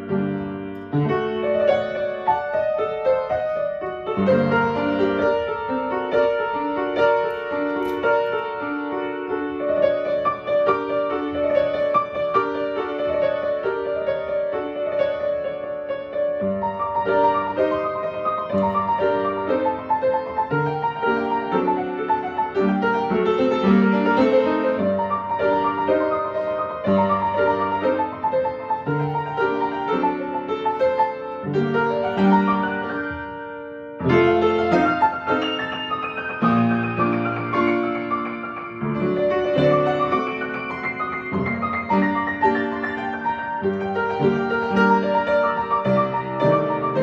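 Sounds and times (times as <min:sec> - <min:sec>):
classical piano piece: 0:00.0 - 0:47.0.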